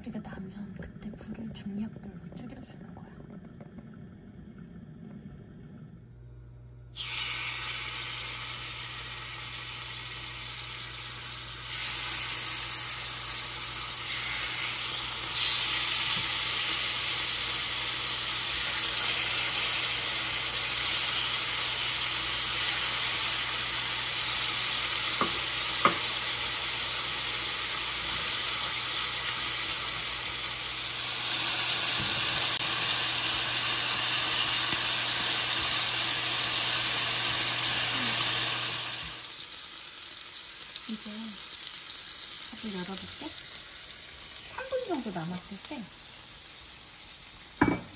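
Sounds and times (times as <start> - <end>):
meat sizzling in a frying pan: 7.0 - 47.9.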